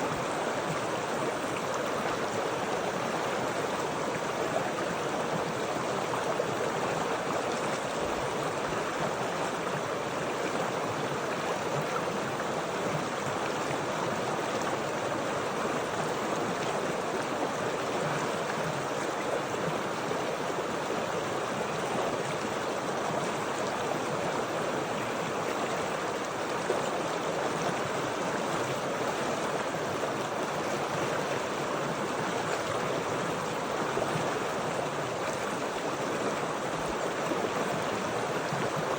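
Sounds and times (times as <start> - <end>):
stream water babbling: 0.0 - 38.9.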